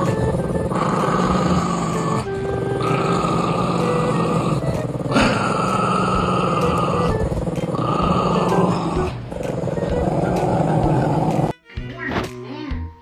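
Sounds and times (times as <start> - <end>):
dogs growling: 0.0 - 11.5.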